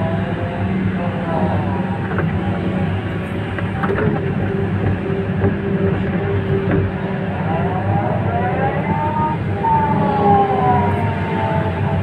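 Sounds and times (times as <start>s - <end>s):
diesel engine running: 0.0s - 12.0s
rising and falling whine: 0.0s - 12.0s.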